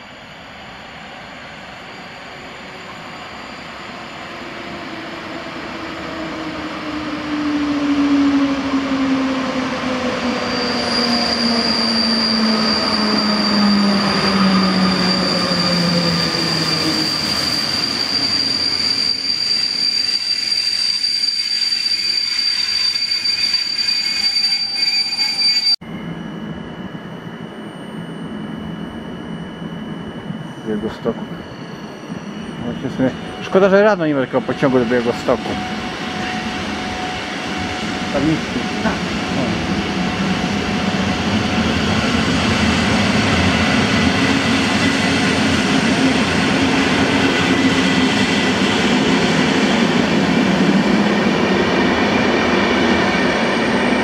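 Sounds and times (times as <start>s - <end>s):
electric locomotive whine: 0.0s - 54.0s
high wheel squeal: 0.0s - 54.0s.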